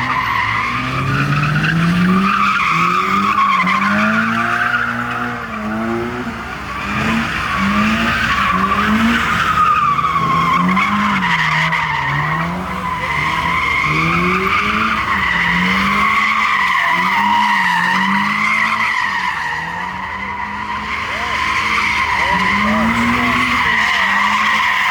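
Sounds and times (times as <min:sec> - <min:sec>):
car engine revving: 0:00.0 - 0:24.9
tyres screeching: 0:00.0 - 0:24.9.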